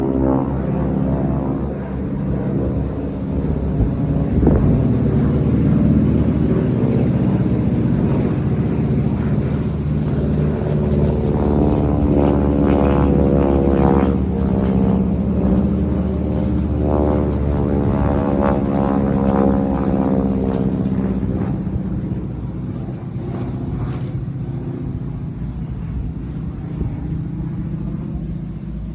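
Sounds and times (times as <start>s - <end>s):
propeller plane engines droning: 0.0s - 28.9s.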